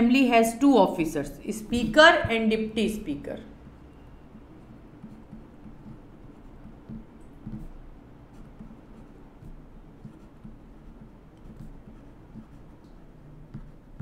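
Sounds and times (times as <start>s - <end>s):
stylus tapping and scratching tablet: 1.5s - 14.0s.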